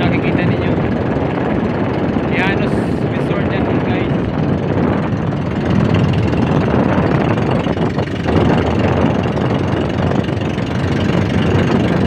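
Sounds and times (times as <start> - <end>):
motorboat engine running: 0.0 - 12.0
rush of water and wind: 0.0 - 12.0.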